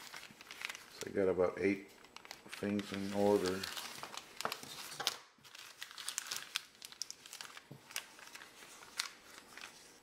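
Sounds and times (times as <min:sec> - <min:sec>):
plastic bag tearing and crinkling: 0:00.0 - 0:01.2, 0:02.0 - 0:10.0.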